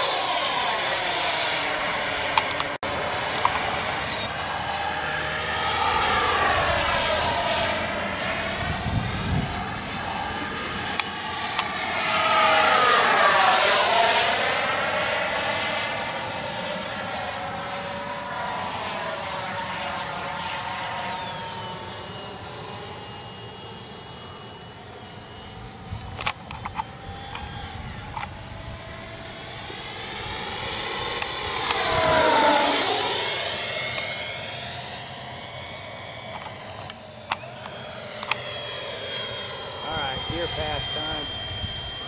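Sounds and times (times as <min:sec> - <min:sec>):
electric ducted fan jet whining: 0:00.0 - 0:42.0.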